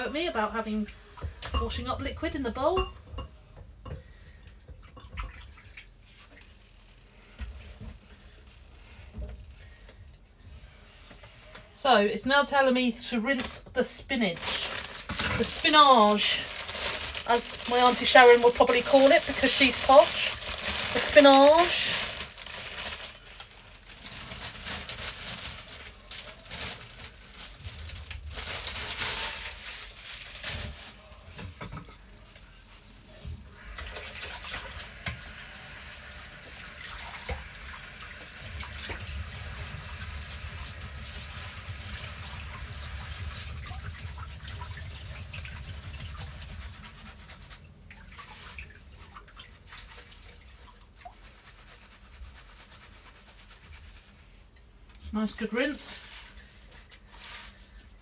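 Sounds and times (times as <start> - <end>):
tap water running and splashing: 3.8 - 10.2, 14.4 - 58.0.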